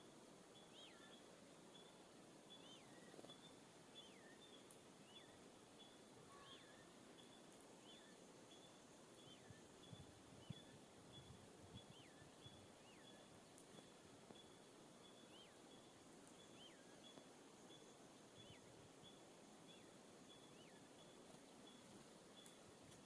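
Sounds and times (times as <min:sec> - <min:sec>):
songbird calls: 0:00.0 - 0:23.0.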